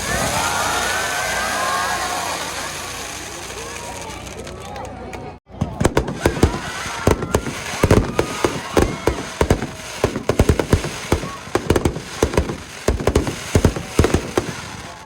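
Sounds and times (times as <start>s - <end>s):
fireworks bursting with sharp bangs: 0.0s - 4.8s, 5.5s - 15.0s
fireworks crackle: 0.0s - 15.0s.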